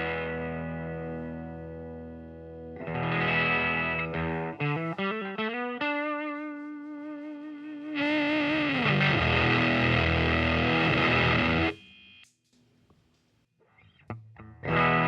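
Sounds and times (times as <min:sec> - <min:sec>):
distorted electric guitar: 0:00.0 - 0:11.8, 0:13.6 - 0:15.0.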